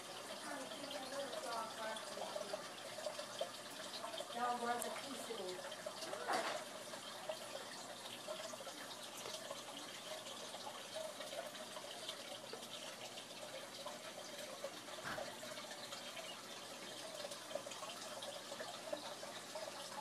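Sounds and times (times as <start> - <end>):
water dripping and bubbling: 0.0 - 20.0
water trickling and splashing: 0.0 - 20.0.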